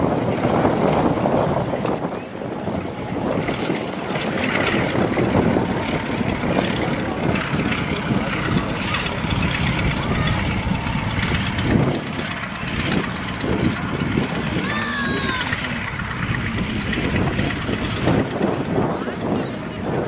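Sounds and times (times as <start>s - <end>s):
biplane engine running: 0.0s - 20.0s
wind noise on microphone: 0.0s - 20.0s.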